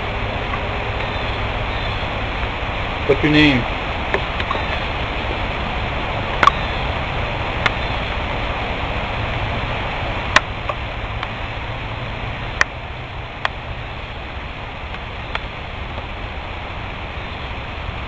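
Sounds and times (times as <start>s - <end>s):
rushing outdoor background noise: 0.0s - 18.0s.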